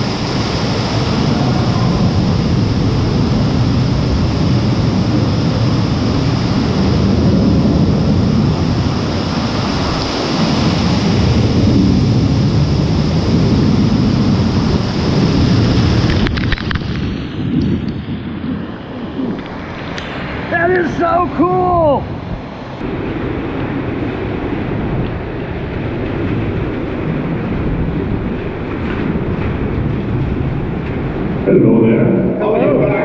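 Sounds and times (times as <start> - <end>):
churning water rushing: 0.0 - 33.0
low uneven rumble: 0.0 - 33.0.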